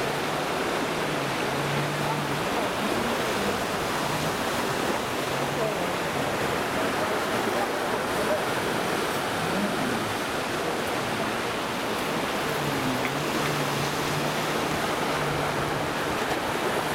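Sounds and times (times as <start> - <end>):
jet ski engine hum: 0.0 - 16.9
surf rushing: 0.0 - 16.9
wind: 0.0 - 16.9.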